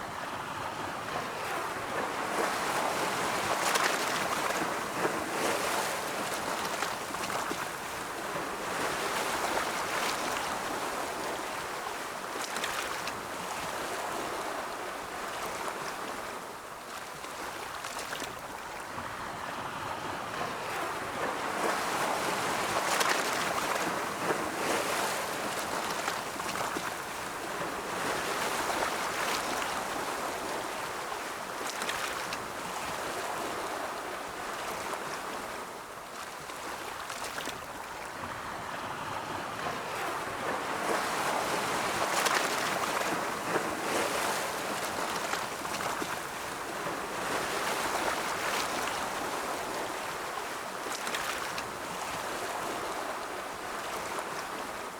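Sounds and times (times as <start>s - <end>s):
ocean waves washing on shore: 0.0s - 54.9s.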